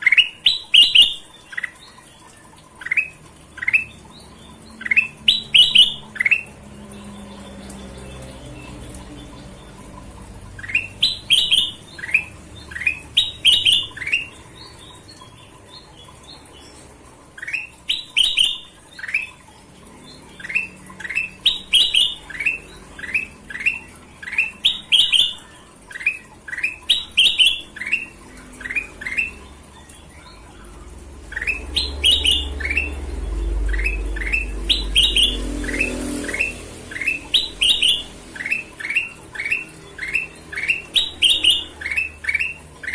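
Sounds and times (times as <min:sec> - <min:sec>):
bulbul singing whistled notes: 0:00.0 - 0:09.9, 0:10.5 - 0:16.8, 0:17.4 - 0:19.4, 0:20.3 - 0:42.9.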